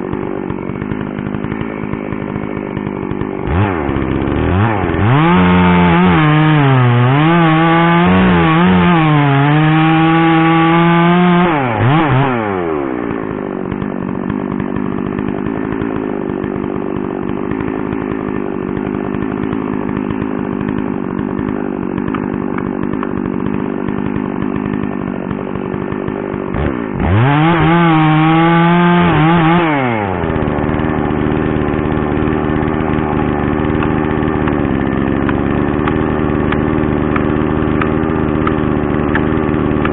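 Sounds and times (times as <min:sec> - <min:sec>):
two-stroke chainsaw revving: 0:00.0 - 0:39.9.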